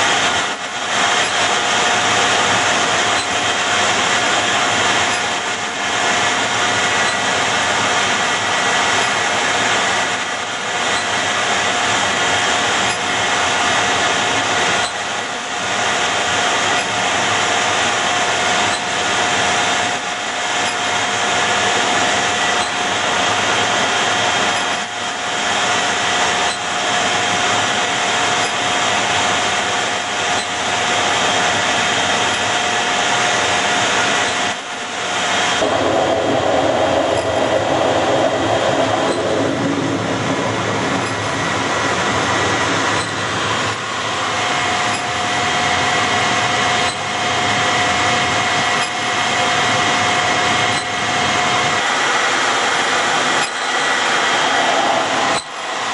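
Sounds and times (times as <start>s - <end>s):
jet engine rush and whine: 0.0s - 55.9s.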